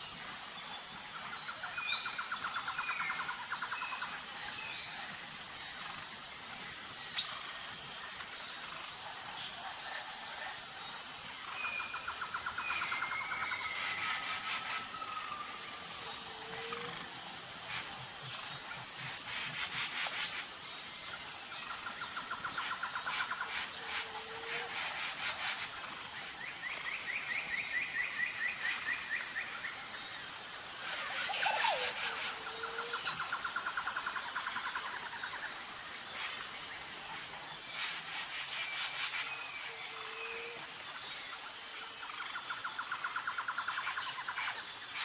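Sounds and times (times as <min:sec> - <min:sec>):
pulsing insect chorus: 0:00.0 - 0:45.0.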